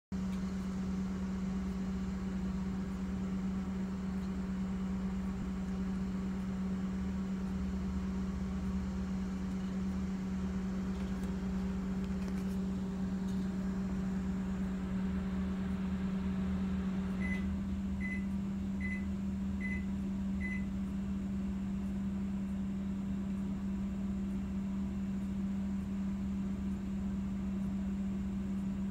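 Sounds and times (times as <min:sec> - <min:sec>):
low machine hum: 0:00.2 - 0:28.9.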